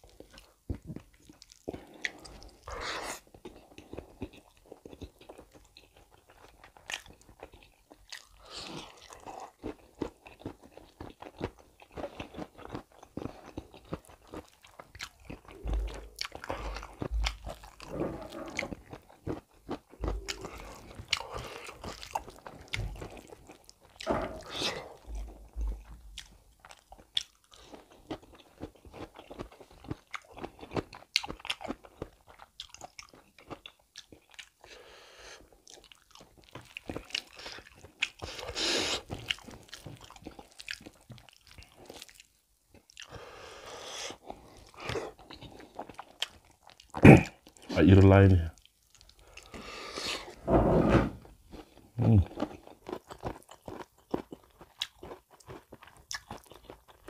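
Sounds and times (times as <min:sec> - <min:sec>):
chewing and wet mouth sounds: 0:00.0 - 0:50.4, 0:51.4 - 0:57.0.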